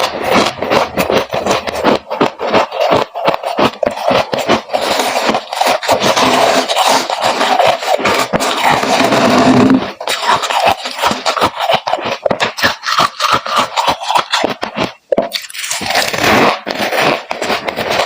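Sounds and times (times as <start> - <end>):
freezer frost crunching and scraping: 0.0 - 18.0.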